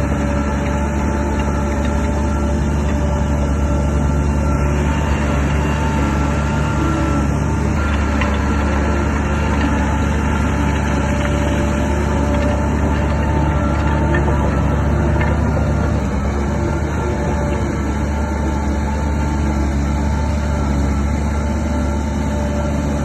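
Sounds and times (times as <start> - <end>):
bulldozer diesel engine humming: 0.0 - 23.0.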